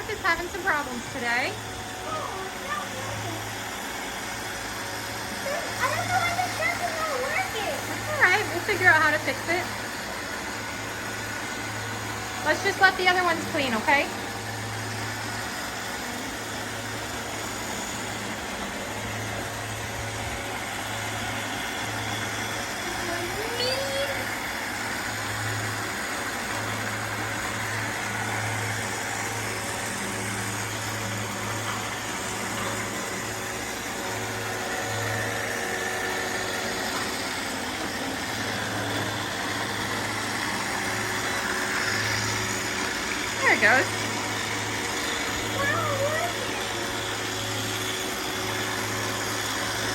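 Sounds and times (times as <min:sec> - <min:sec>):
robot vacuum cleaners whirring: 0:00.0 - 0:49.9.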